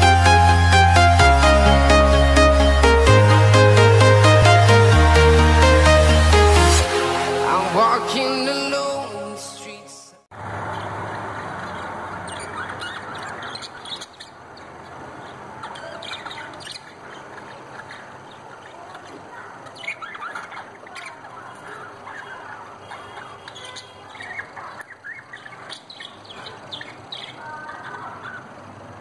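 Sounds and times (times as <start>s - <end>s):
budgies chirping: 0.0s - 6.8s, 10.4s - 29.0s.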